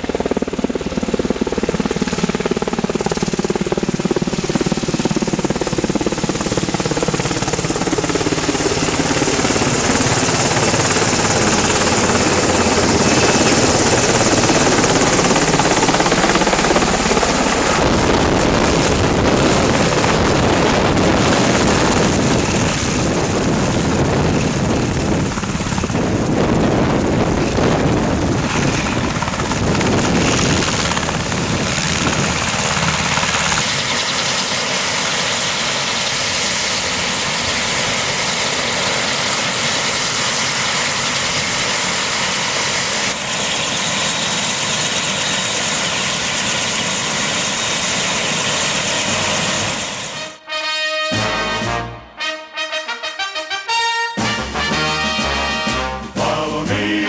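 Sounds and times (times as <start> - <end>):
helicopter rotor and turbine engines: 0.0 - 57.0.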